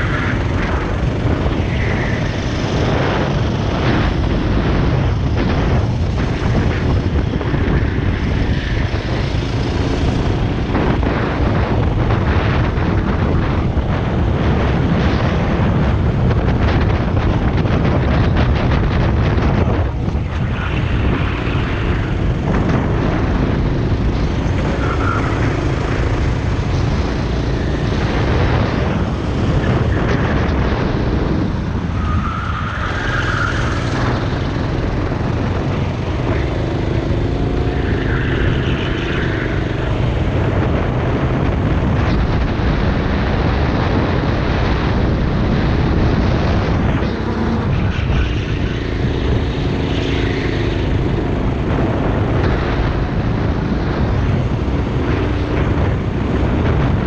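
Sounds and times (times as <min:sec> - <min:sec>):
kart engine running hard: 0:00.0 - 0:57.0
wind rushing over microphone: 0:00.0 - 0:57.0.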